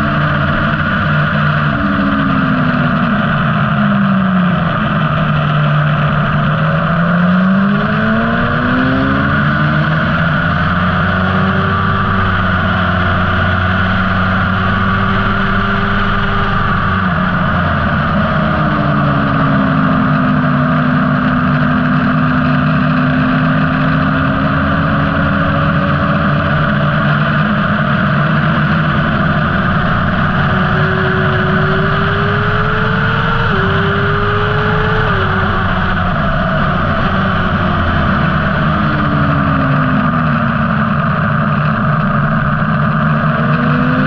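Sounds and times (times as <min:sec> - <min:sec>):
motorcycle engine at speed: 0:00.0 - 0:44.0.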